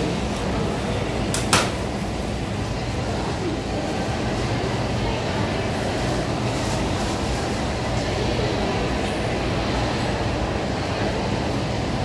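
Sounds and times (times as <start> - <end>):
indoor crowd hubbub: 0.0 - 12.0.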